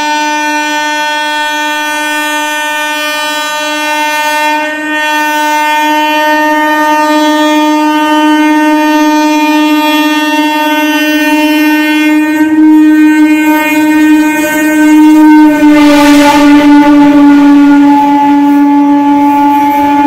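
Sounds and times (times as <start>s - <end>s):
locomotive horn blast: 0.0s - 20.0s.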